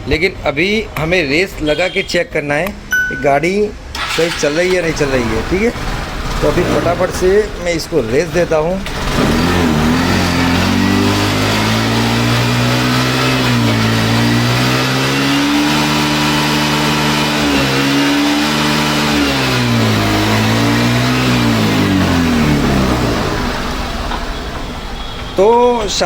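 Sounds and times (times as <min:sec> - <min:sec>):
scooter engine revving: 0:04.0 - 0:25.4.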